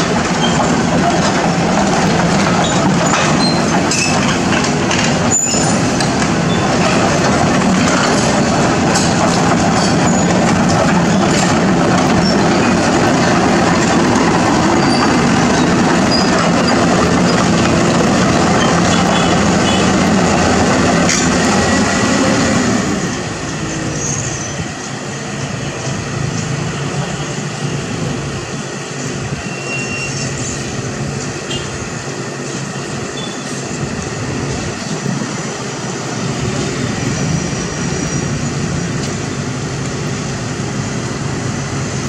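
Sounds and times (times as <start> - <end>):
excavator diesel engine under load: 0.0 - 29.4, 30.2 - 42.0.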